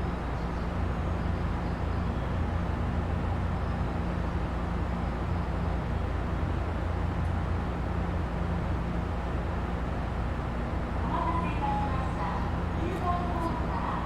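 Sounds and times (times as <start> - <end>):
electric train low hum: 0.0 - 14.0.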